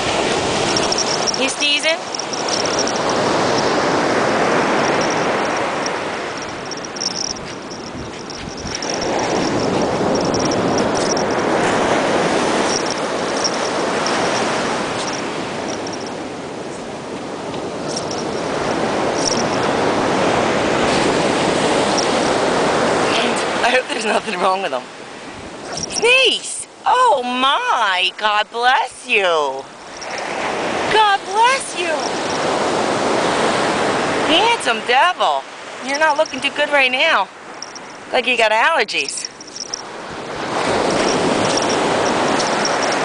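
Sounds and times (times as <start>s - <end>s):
ocean surf washing ashore: 0.0s - 43.0s.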